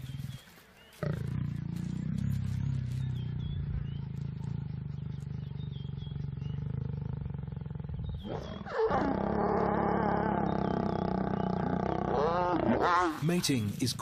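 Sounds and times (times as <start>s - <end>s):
lion growling and roaring: 1.0s - 13.3s.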